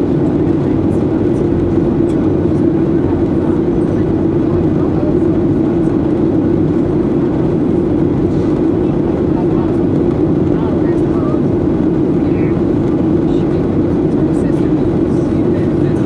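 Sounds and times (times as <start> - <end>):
airplane cabin drone: 0.0 - 16.0.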